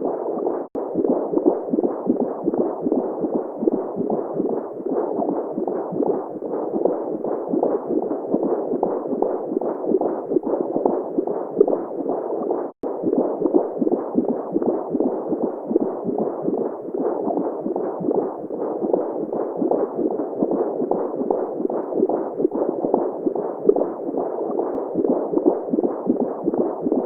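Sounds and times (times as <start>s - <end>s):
muffled whooshing pulse: 0.0s - 27.0s.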